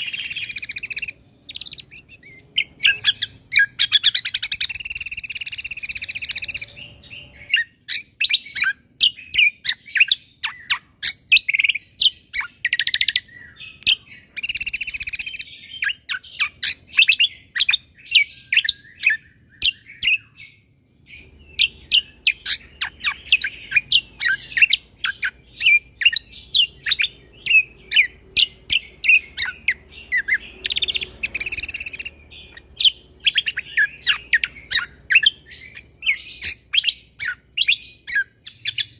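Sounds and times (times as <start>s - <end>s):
songbird chirping and whistling: 0.0s - 38.9s.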